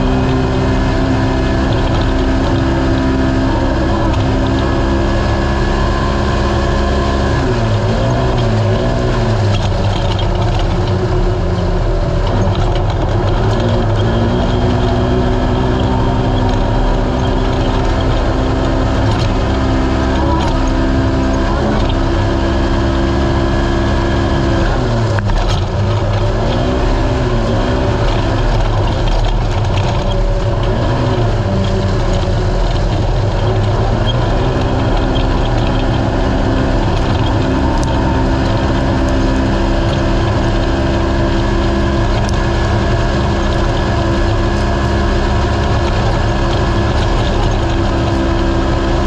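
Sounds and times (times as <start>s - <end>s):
race engine running hard: 0.0s - 49.0s.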